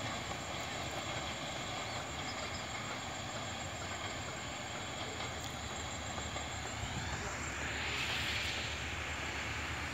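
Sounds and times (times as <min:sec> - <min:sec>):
distant train rumble: 0:00.0 - 0:09.9.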